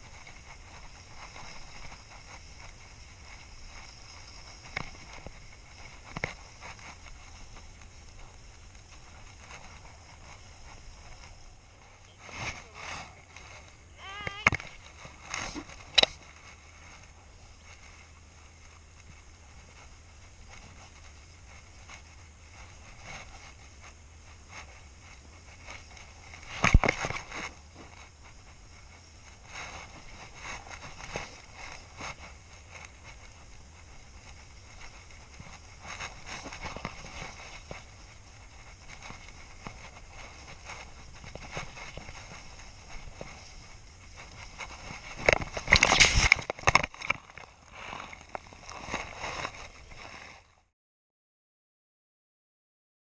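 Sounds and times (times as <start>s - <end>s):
wind rumble on microphone: 0.0s - 50.6s
skis sliding over snow: 0.0s - 50.7s.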